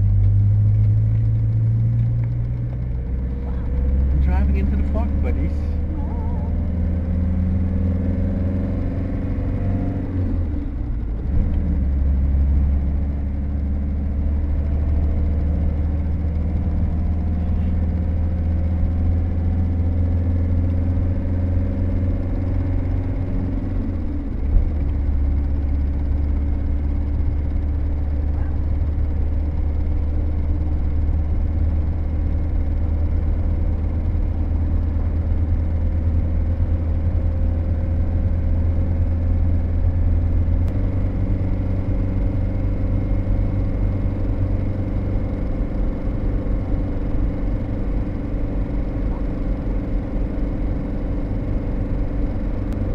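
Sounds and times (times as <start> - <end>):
engine humming while driving: 0.0 - 52.9.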